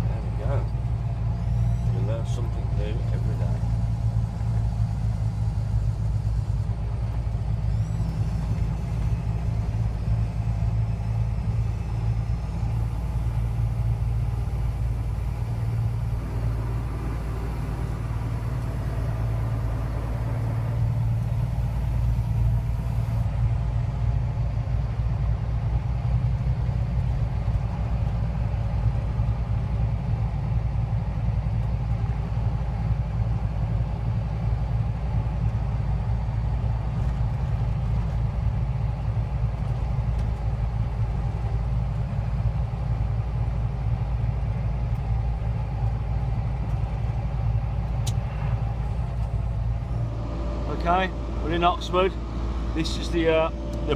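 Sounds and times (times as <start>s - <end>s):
road noise: 0.0s - 53.9s
truck diesel engine drone: 0.0s - 53.9s.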